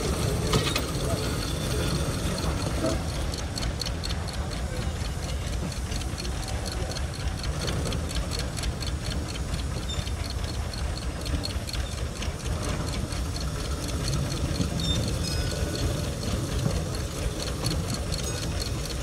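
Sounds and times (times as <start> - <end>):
diesel locomotive engine ticking: 0.0 - 19.0.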